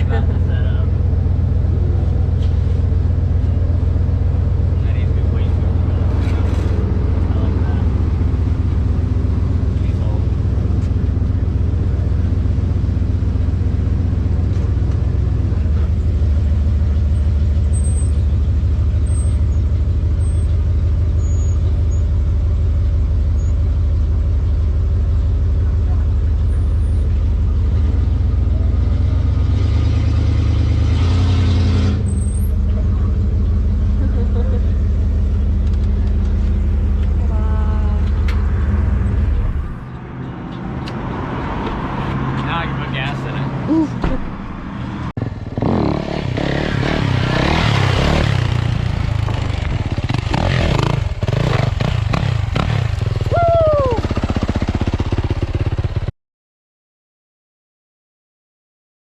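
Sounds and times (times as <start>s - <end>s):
vehicle engine drone: 0.0s - 56.1s.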